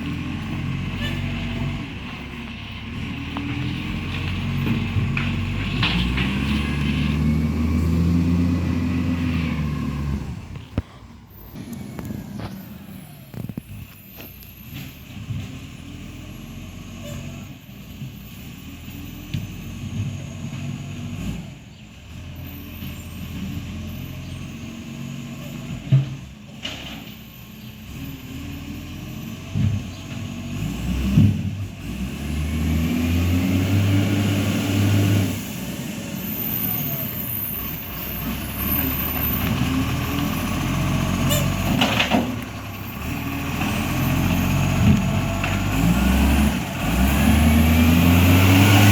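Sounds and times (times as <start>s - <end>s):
diesel engine running: 0.0s - 26.9s, 27.6s - 48.9s.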